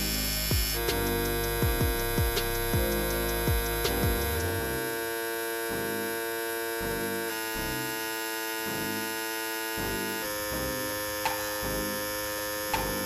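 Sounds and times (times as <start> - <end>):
electric trimmer buzzing: 0.0 - 13.0.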